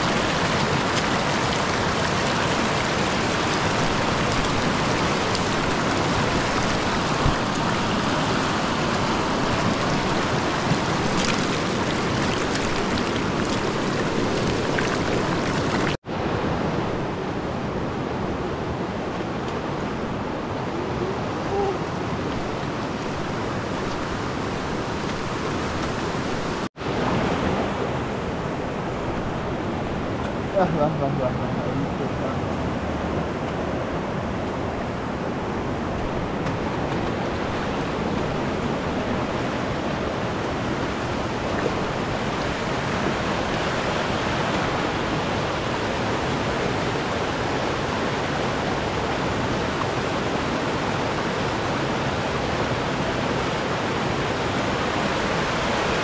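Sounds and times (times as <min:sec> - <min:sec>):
rushing river water: 0:00.0 - 0:56.0.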